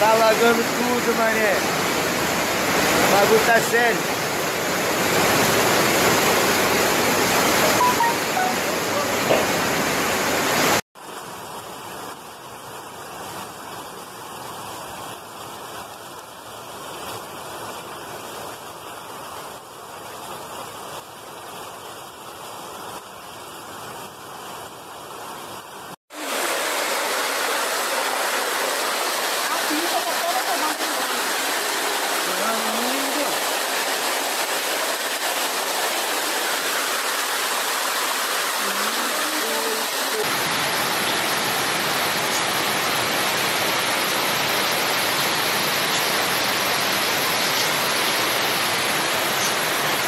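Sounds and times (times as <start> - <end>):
floodwater rushing: 0.0 - 24.2, 25.4 - 50.0.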